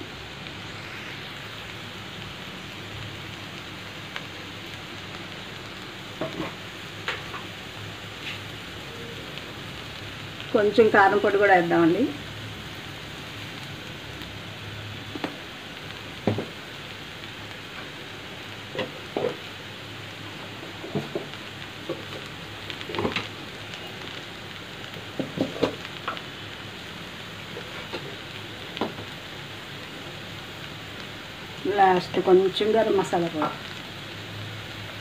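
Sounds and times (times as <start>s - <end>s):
cabbage sizzling in a pan: 0.0s - 35.0s
small clicks and crackles: 0.4s - 10.9s, 15.0s - 35.0s.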